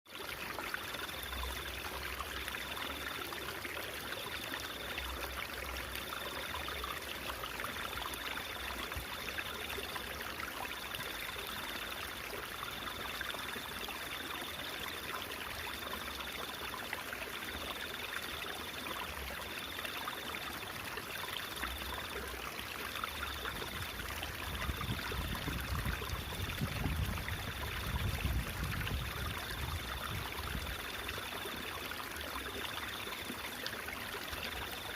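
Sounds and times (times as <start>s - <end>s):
stream trickling: 0.1s - 34.9s.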